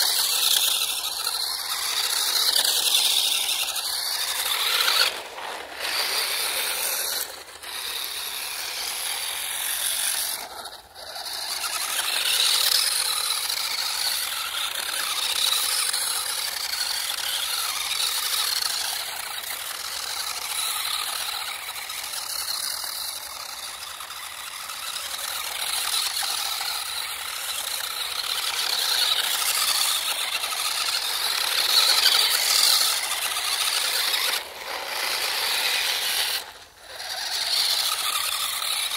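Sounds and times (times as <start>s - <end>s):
rc car motor and gear whine: 0.0s - 38.9s.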